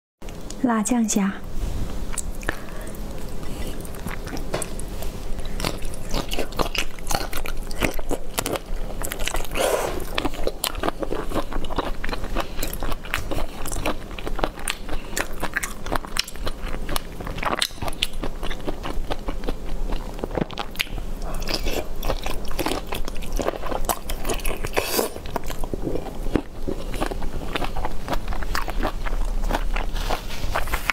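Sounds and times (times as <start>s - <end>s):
biting and chewing crunchy food: 2.1s - 30.9s.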